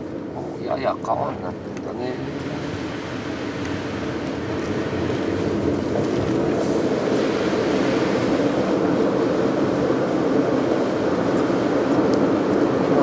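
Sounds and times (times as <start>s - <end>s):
tyre noise on wet road: 1.1s - 13.0s.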